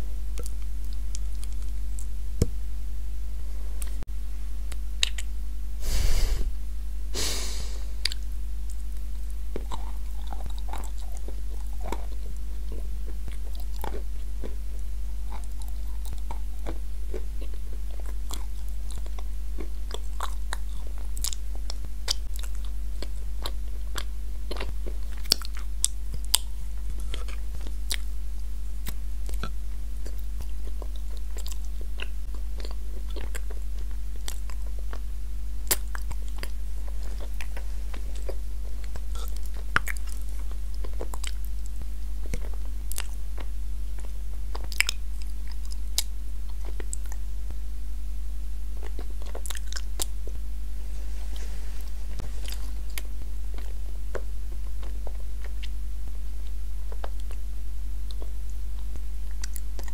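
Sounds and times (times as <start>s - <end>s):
low electrical hum: 0.0s - 59.9s
chewing and crunching clay: 0.3s - 2.2s, 4.7s - 5.3s, 8.0s - 47.6s, 48.6s - 50.5s, 52.2s - 59.9s.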